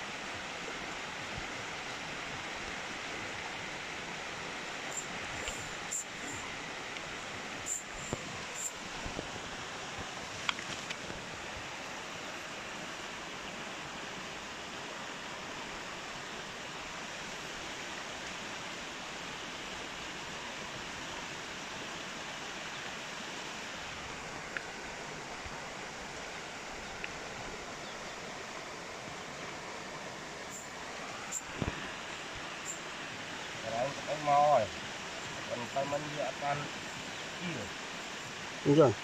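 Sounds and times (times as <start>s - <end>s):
river rushing: 0.0s - 39.0s.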